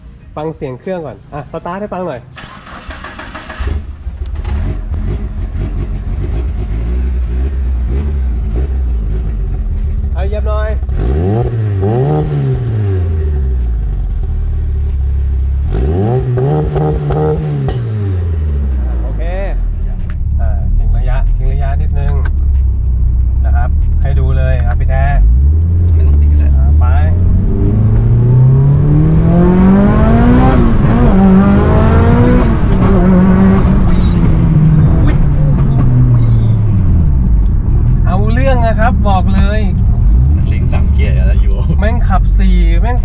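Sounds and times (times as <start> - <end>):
car engine revving: 2.3 - 43.0.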